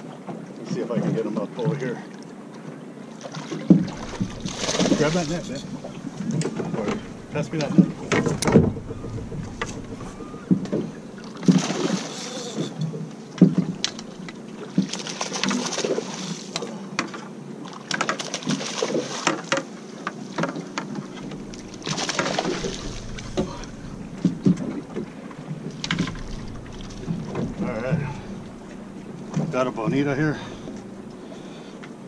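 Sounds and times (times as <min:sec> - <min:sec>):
water lapping against boat hull: 0:00.0 - 0:32.0.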